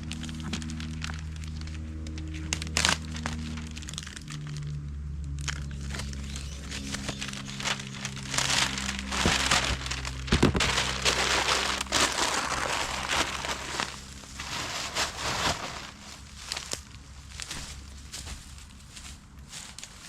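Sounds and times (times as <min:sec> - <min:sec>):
plastic crinkling and rustling: 0:00.0 - 0:04.8, 0:05.4 - 0:17.9.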